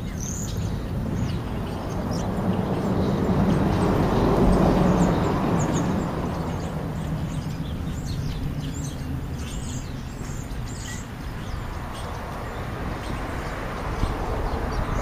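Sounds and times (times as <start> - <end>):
passing vehicle rumble: 0.0 - 15.0
small birds chirping: 0.0 - 15.0.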